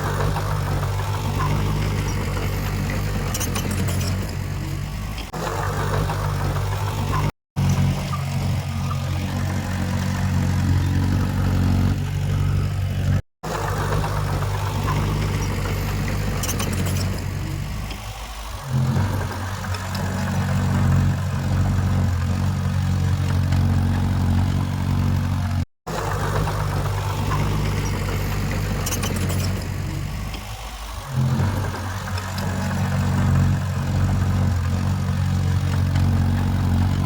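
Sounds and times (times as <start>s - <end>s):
heavy diesel machine engine: 0.0s - 37.0s.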